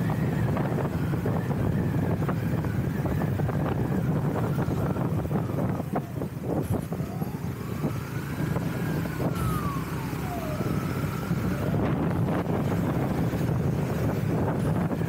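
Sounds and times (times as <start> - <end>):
siren wailing: 0.0 - 15.0
wind noise on microphone: 0.0 - 15.0.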